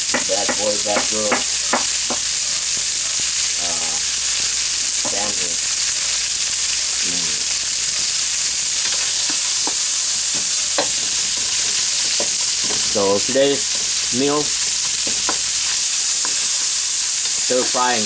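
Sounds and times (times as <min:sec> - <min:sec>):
stir fry sizzling in a wok: 0:00.0 - 0:18.0.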